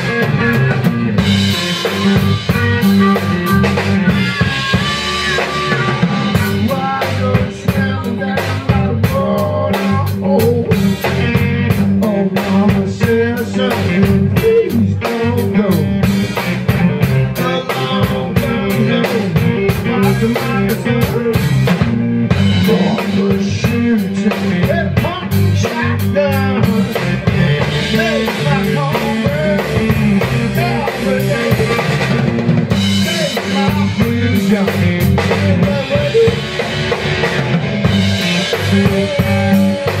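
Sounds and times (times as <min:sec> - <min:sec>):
bass guitar: 0:00.0 - 0:40.0
drum kit beat: 0:00.0 - 0:40.0
electric guitars: 0:00.0 - 0:40.0.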